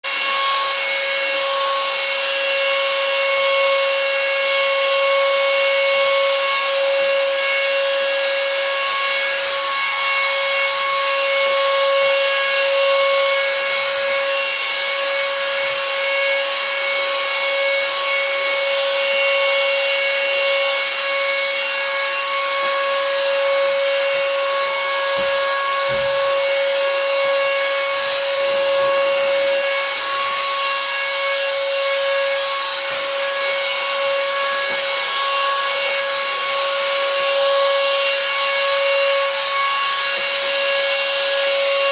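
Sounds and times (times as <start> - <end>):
handheld vacuum cleaner running: 0.0 - 41.9.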